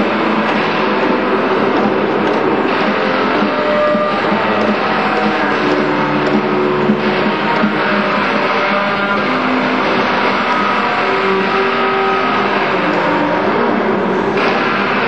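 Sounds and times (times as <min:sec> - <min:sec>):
improvised band music: 0:00.0 - 0:15.0.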